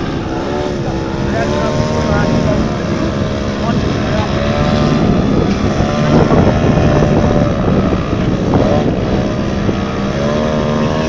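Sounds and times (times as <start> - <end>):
model plane engine and propeller: 0.0 - 11.0.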